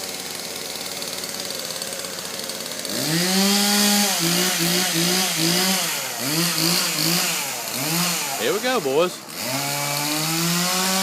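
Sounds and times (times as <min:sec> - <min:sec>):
chainsaw idling and revving: 0:00.0 - 0:11.0.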